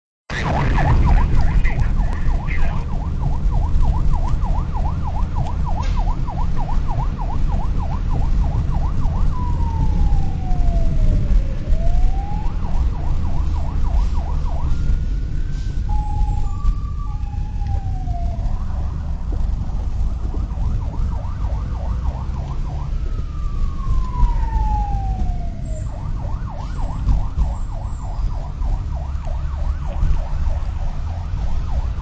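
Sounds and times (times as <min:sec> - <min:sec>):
engine and road rumble: 0:00.3 - 0:32.0
fire truck siren: 0:00.3 - 0:32.0.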